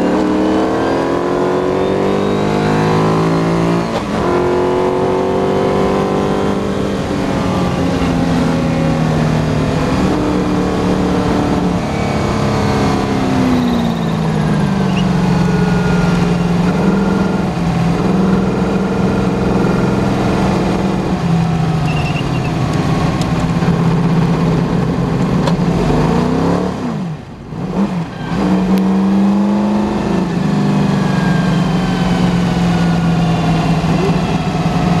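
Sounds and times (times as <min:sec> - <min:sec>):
racing car engine: 0:00.0 - 0:35.0.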